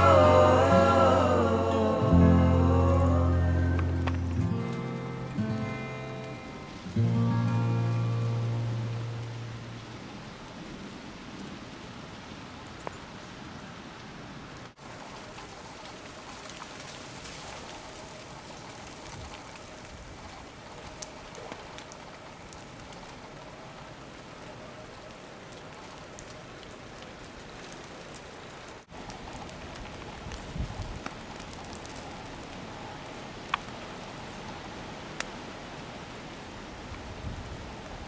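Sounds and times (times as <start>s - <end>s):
wet snow and rain pattering: 0.0s - 38.0s.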